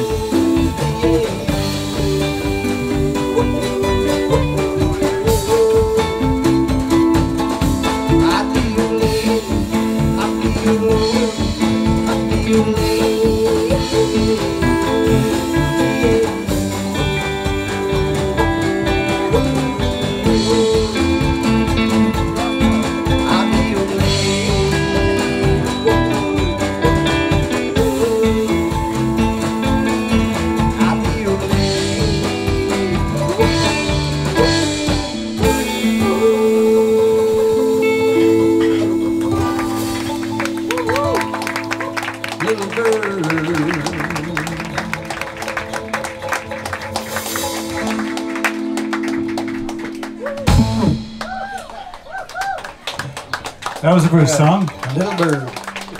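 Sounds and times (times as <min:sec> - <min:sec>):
live band guitar music: 0:00.0 - 0:55.9.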